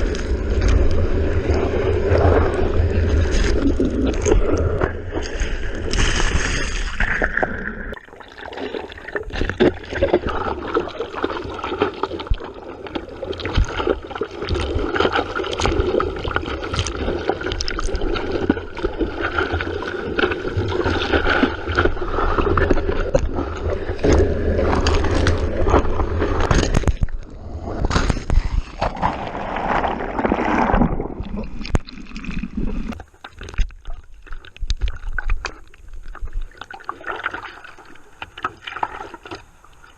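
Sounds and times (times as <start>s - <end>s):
sea water splashing: 0.0s - 39.9s.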